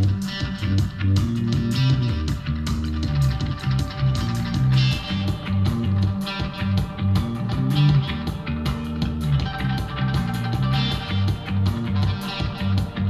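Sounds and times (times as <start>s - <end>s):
rock music through speaker: 0.0s - 13.0s.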